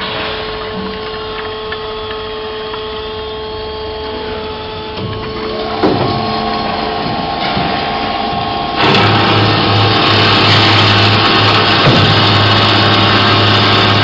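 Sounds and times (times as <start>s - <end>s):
band saw machine hum: 0.0s - 14.0s.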